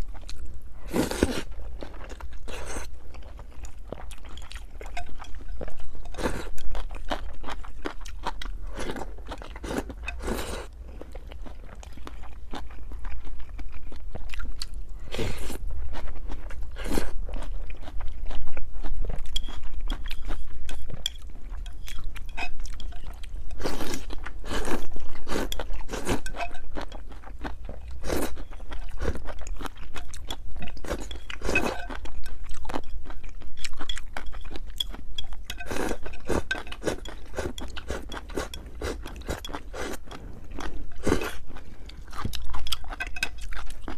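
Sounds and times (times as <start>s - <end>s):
faint low hum: 0.0s - 43.9s
wet chewing and mouth noises: 0.0s - 43.9s.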